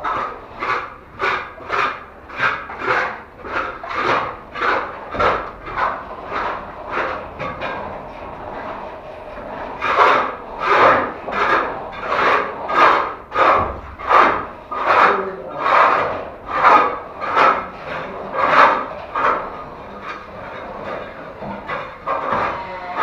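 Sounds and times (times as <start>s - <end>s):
plastering tool rasping on plaster: 0.0s - 23.0s.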